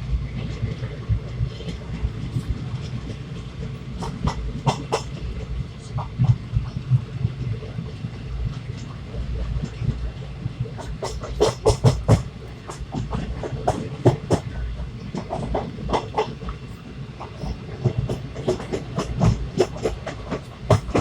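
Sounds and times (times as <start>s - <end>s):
train rumbling inside coach: 0.0s - 21.0s
wheels clacking and knocking: 0.6s - 21.0s.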